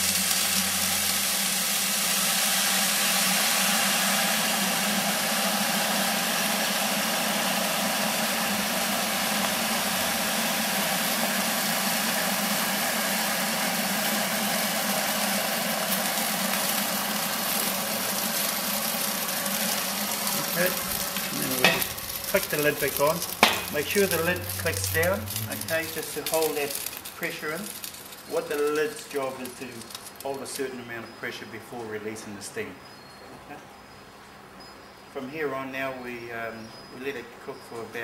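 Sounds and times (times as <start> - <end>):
water sizzling into steam: 0.0 - 30.7.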